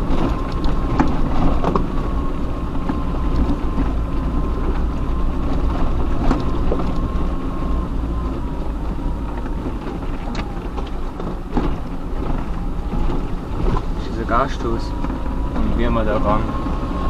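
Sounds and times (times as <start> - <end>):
knocks and rattles: 0.0 - 16.7
off-road vehicle engine rumble: 0.0 - 17.0.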